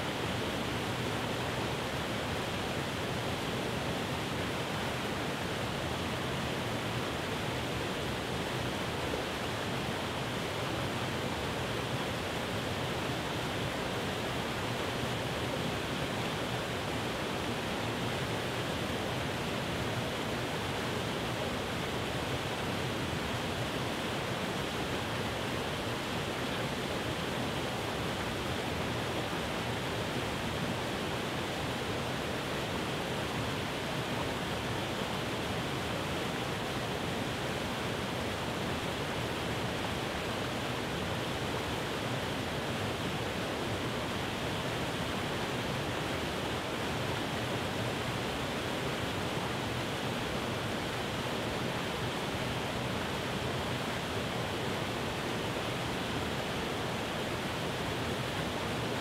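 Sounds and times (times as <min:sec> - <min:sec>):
water rushing over rock ledges: 0:00.0 - 0:59.0.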